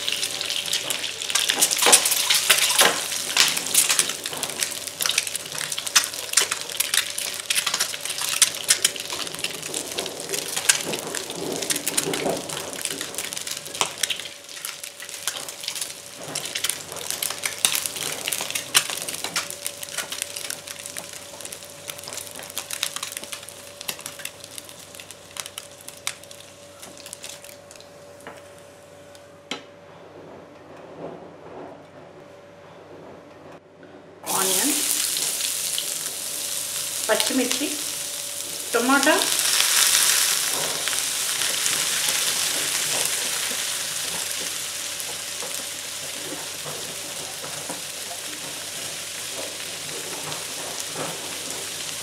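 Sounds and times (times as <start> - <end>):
eggs sizzling in oil: 0.0 - 27.8, 34.3 - 52.0
oil crackling and popping: 0.0 - 27.9, 34.3 - 52.0.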